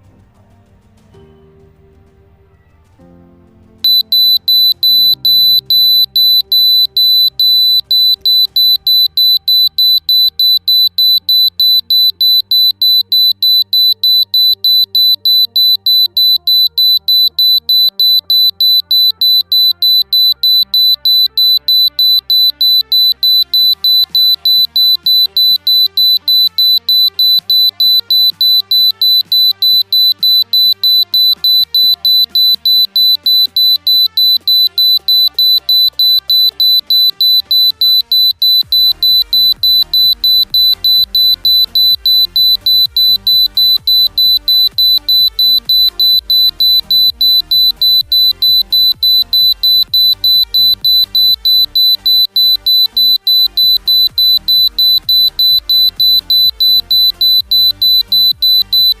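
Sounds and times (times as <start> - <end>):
background music: 0.0 - 59.0
rapid high-pitched buzzer beeps: 3.8 - 59.0.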